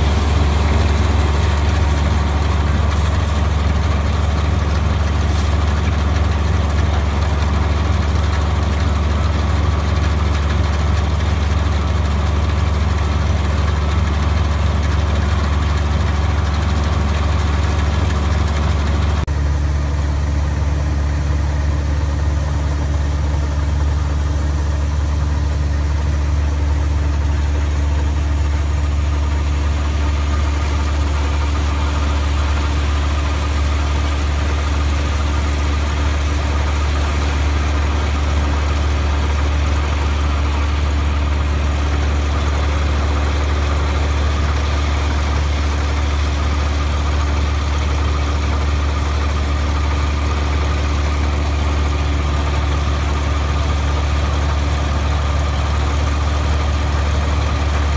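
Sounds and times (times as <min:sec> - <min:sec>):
combine harvester engine humming: 0:00.0 - 0:57.9.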